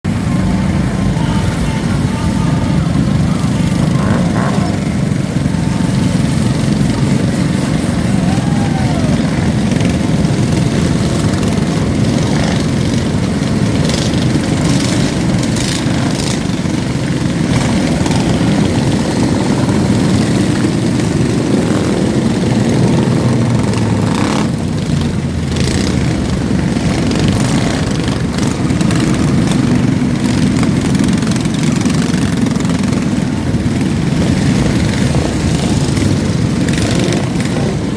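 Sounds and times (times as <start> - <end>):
mini bike engines droning: 0.1 - 37.9.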